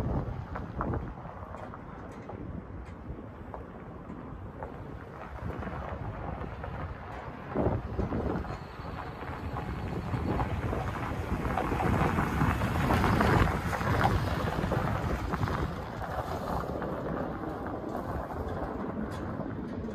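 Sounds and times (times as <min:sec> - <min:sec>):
truck engine rumbling: 0:00.0 - 0:19.9
wind buffeting microphone: 0:00.0 - 0:19.9.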